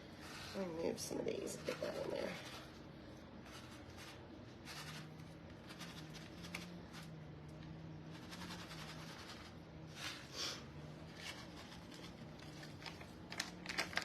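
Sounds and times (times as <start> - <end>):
food rustling in baking dish: 0.0 - 7.2, 8.1 - 14.0
low steady hum: 0.0 - 14.0.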